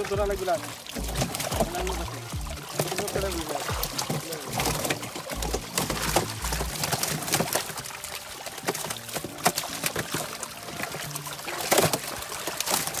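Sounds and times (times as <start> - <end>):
fish thrashing and splashing: 0.0 - 13.0
water trickling and dripping: 0.0 - 13.0.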